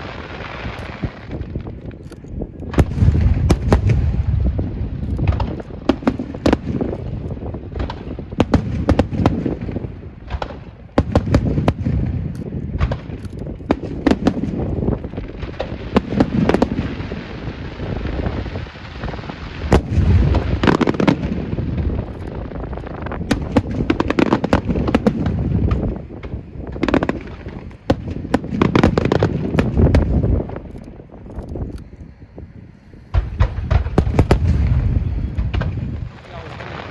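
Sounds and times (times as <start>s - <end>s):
fireworks bangs: 0.0s - 31.7s, 33.0s - 36.9s
hissing crackle: 0.0s - 36.9s.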